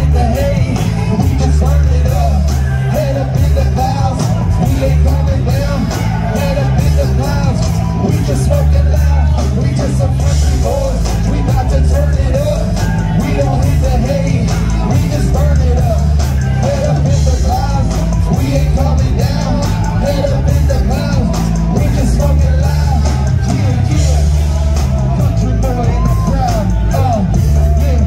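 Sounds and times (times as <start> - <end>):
amplified vocals: 0.0 - 28.0
bass guitar: 0.0 - 28.0
drums: 0.0 - 28.0
electric guitars: 0.0 - 28.0.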